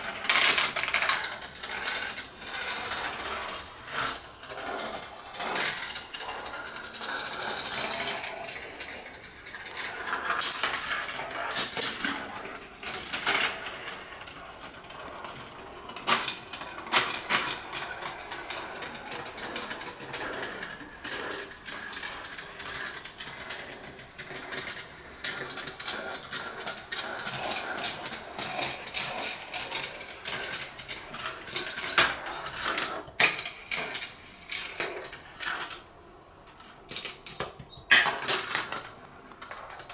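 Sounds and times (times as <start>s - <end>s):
steel balls rattling through marble run: 0.0s - 35.9s.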